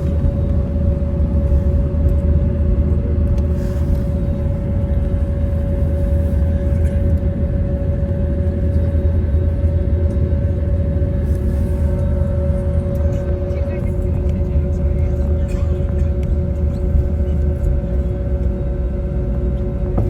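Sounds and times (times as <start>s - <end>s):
constant whine: 0.0s - 20.0s
idling jet engines rumble: 0.0s - 20.0s.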